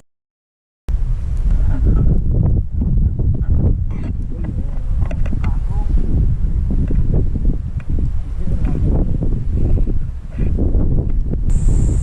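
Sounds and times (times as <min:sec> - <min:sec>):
wind buffeting microphone: 0:00.9 - 0:12.0.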